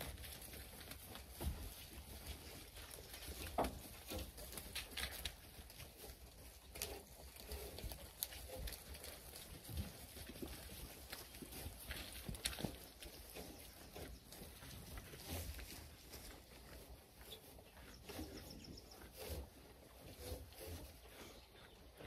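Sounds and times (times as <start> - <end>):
sheep hooves trotting on straw: 0.0 - 22.0.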